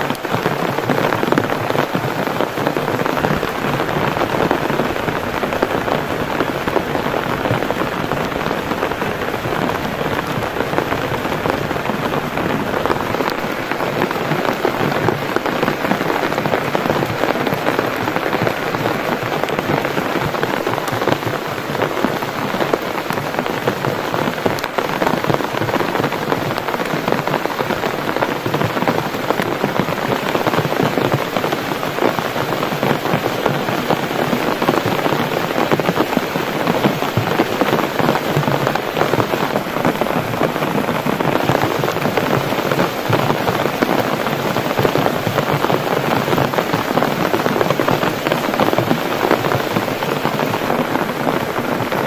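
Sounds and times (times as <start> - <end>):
heavy rain on a tarp: 0.0 - 52.0.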